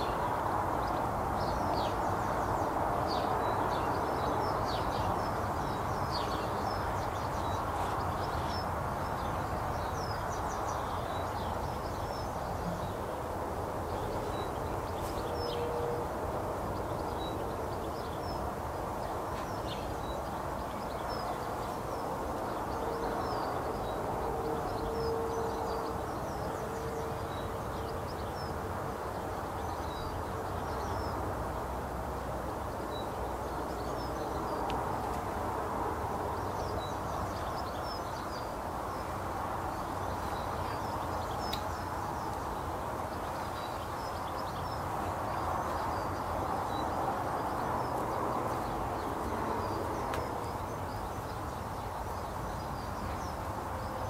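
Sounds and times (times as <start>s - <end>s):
small birds chirping: 0.0s - 13.2s, 16.7s - 35.6s, 36.2s - 54.0s.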